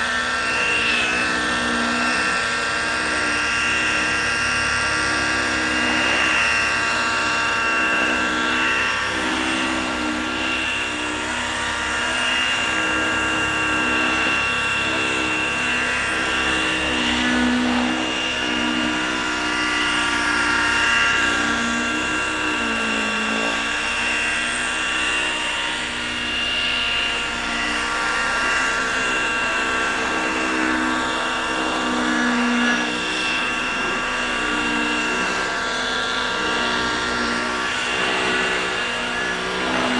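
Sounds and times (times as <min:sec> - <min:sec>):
model helicopter engine and rotors: 0:00.0 - 0:39.9.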